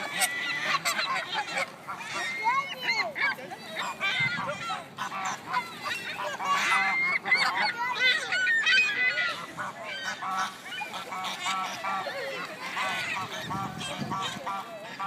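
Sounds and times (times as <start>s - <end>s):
seagulls and ducks squawking: 0.0s - 15.0s.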